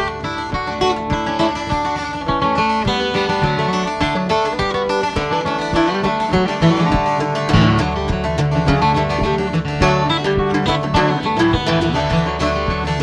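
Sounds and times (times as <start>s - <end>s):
acoustic guitar folk melody: 0.0s - 13.0s.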